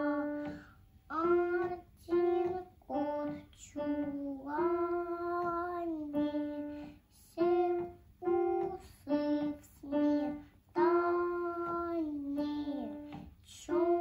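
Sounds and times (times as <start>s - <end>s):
child singing: 0.0s - 14.0s
digital piano melody: 0.0s - 14.0s.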